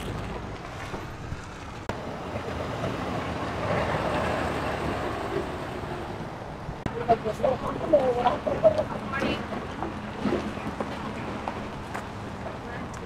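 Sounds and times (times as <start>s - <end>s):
motor vehicle running: 0.0s - 13.0s
wind rumbling on microphone: 0.0s - 13.0s.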